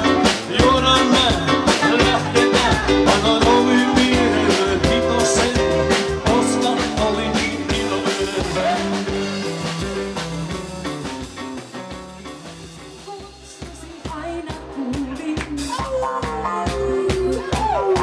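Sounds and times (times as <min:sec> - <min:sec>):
live pop-rock band playing: 0:00.0 - 0:18.0.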